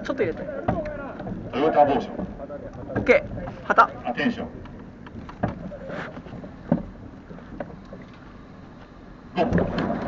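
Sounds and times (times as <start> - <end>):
small knocks from boat: 0.0 - 10.0
wind and water noise: 0.0 - 10.0.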